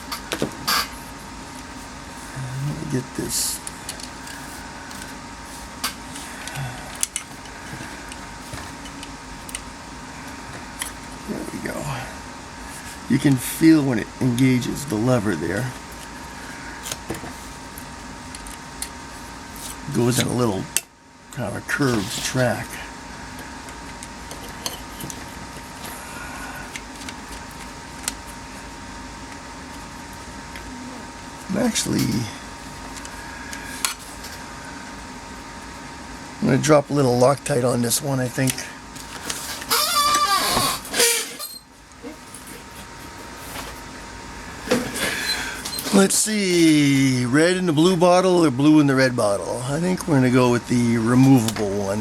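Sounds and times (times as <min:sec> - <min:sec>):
room hum: 0:00.0 - 0:52.0.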